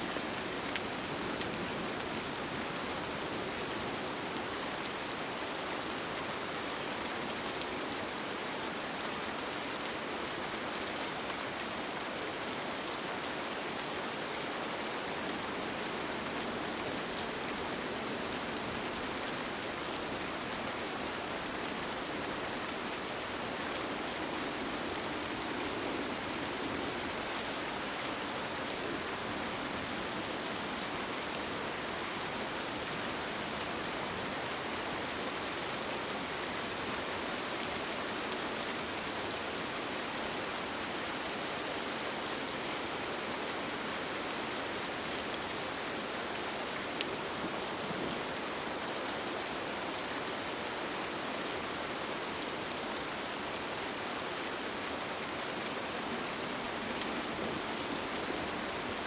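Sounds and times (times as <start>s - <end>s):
rain on a tent: 0.0s - 59.0s.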